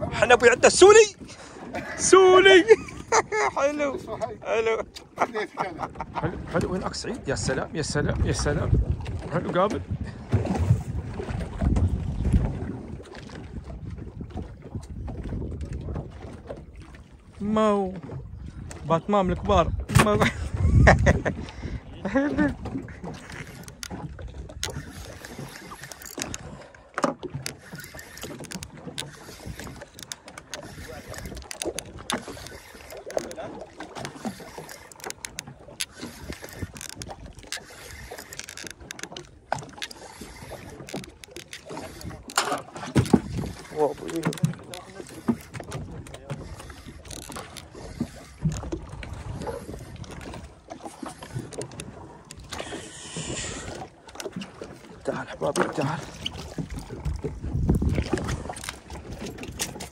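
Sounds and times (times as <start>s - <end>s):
water lapping against boat hull: 0.0s - 59.9s.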